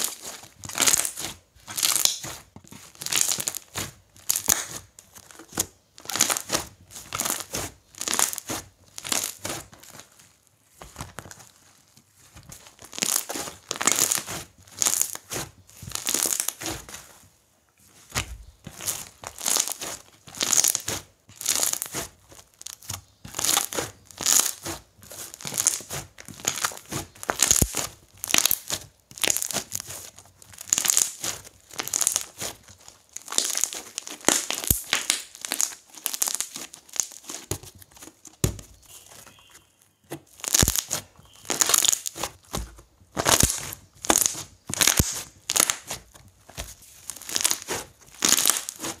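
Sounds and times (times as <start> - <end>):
slime squishing and crackling: 0.0 - 17.2, 18.0 - 49.0.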